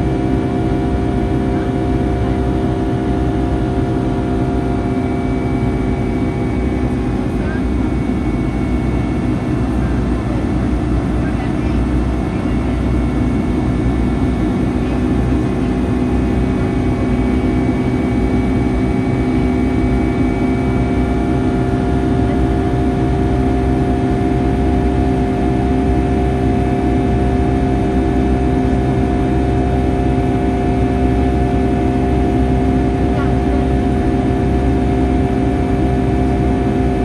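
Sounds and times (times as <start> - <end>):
jet cabin engine hum: 0.0 - 37.0.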